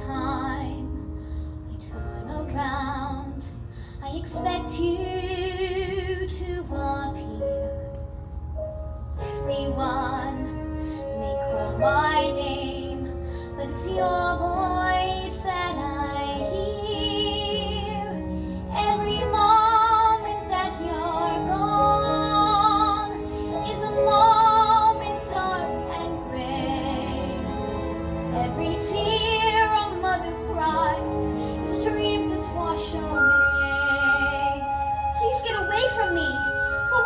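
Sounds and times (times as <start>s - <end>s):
woman singing a ballad: 0.0s - 7.8s, 9.2s - 37.0s.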